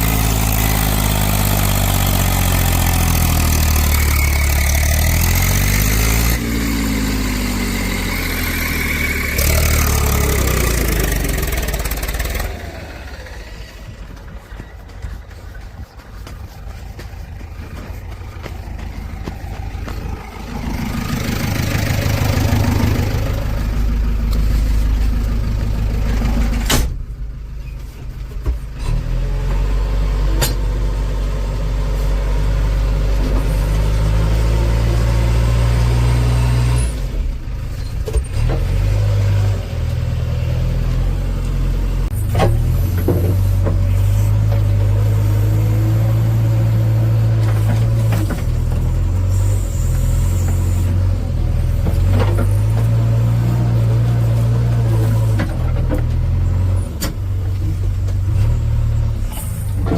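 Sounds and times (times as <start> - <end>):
diesel machinery engines humming: 0.0 - 59.9.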